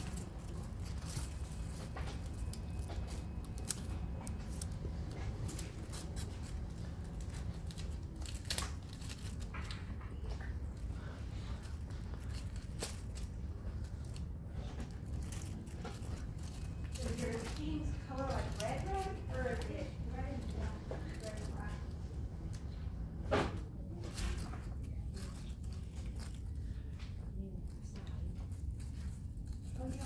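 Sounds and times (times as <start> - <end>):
paper rustling and crinkling: 0.0 - 30.0
steady low hum: 0.0 - 30.0.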